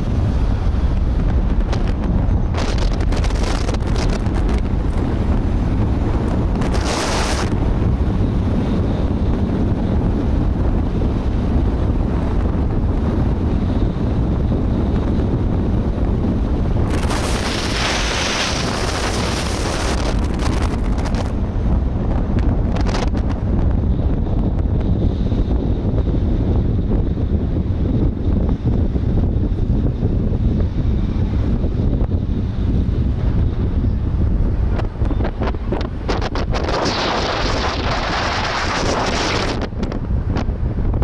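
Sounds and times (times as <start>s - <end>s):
road noise: 0.0s - 41.0s
wind buffeting microphone: 0.0s - 41.0s.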